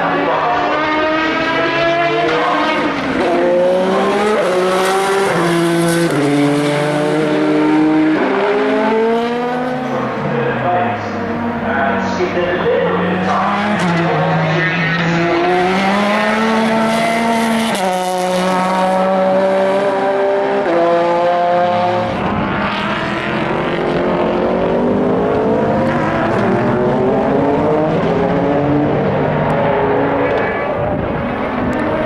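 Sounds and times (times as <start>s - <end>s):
cars passing: 0.0s - 32.0s
race car engines at speed: 0.0s - 32.0s.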